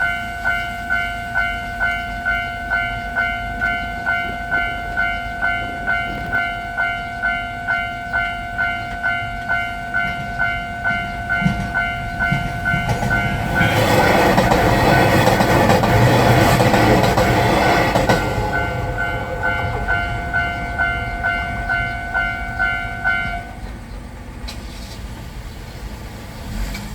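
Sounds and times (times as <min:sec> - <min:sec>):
level crossing bell dinging: 0:00.0 - 0:23.7
passing diesel railcar: 0:00.0 - 0:26.9.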